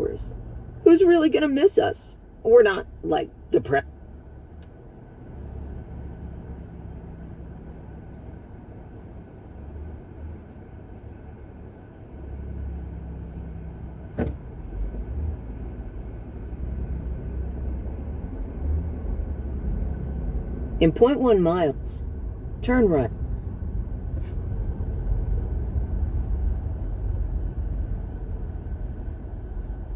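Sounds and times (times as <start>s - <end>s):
car road and engine rumble: 0.0s - 29.9s.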